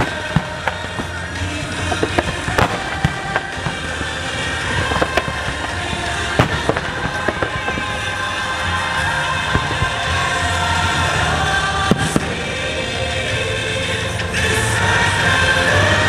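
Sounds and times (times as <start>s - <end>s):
fireworks bangs: 0.0s - 13.4s
music: 0.0s - 16.0s.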